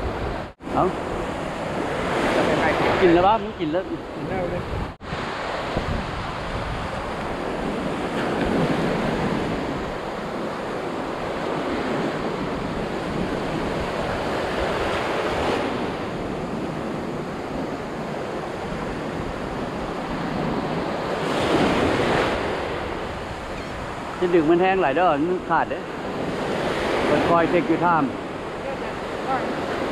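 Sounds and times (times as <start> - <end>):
ocean surf breaking on beach: 0.0 - 29.9
wind rumbling on microphone: 0.0 - 29.9.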